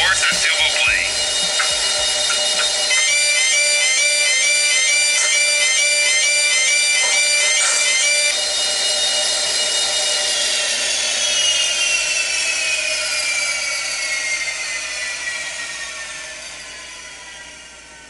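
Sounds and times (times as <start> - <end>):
jet turbine whine winding down: 0.0 - 18.0.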